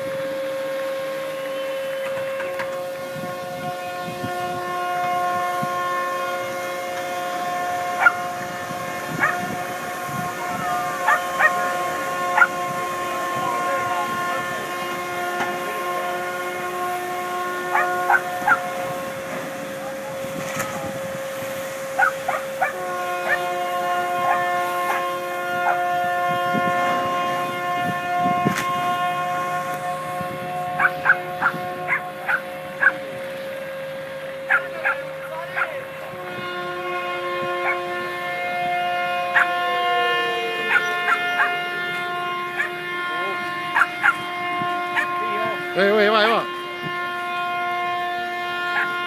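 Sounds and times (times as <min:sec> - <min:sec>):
ship horns blasting: 0:00.0 - 0:49.0.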